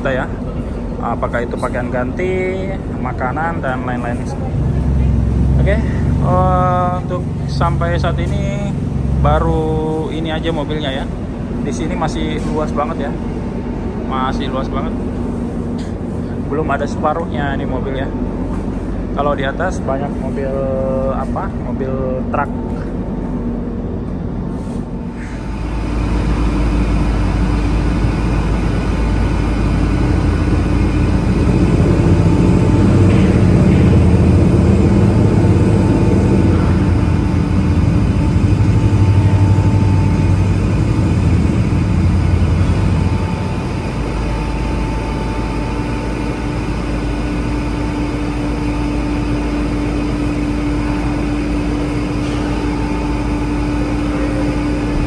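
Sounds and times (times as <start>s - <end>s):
engine and machinery drone: 0.0s - 55.0s
heavy engine rumble: 0.0s - 55.0s
steady hum tones: 0.0s - 55.0s.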